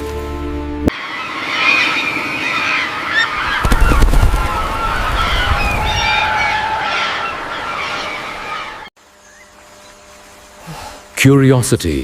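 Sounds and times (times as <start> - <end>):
birds calling: 0.9 - 11.1.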